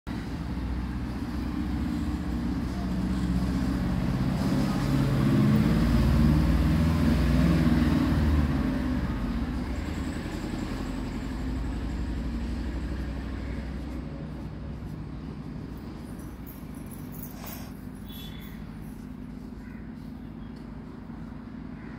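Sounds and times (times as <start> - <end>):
vehicle engine rumble: 0.1 - 21.9.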